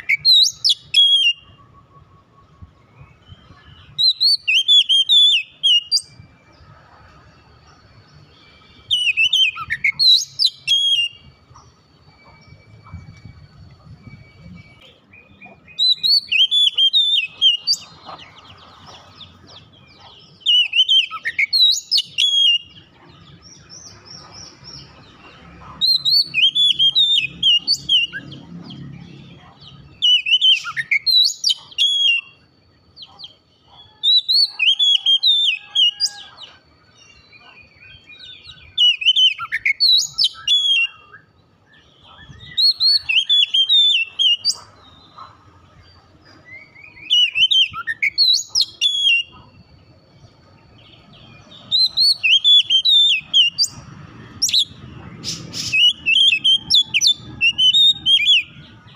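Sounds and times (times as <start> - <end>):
bird singing whistled notes: 0.0 - 58.9.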